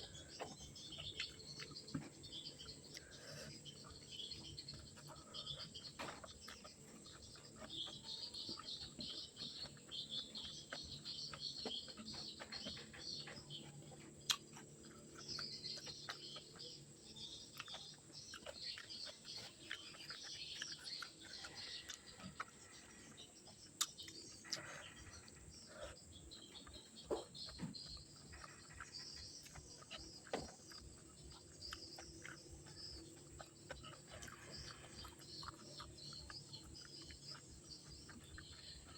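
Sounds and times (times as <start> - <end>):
chewing clicks: 0.0 - 38.9
high chirping: 0.0 - 38.9.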